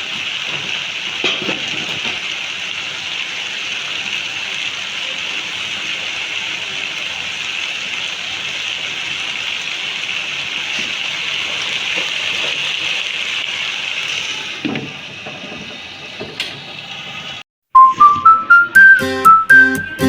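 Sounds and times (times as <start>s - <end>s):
food sizzling in a pan: 0.0s - 17.4s.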